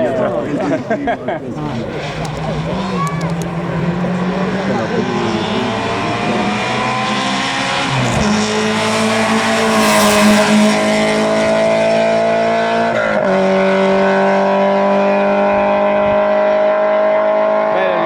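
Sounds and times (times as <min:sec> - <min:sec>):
race car engine accelerating: 0:00.0 - 0:18.0.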